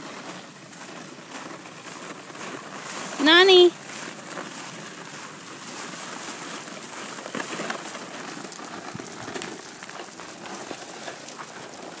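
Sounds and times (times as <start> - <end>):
footsteps crunching on ice: 0.0 - 12.0
plastic sled scraping on snow: 0.0 - 12.0.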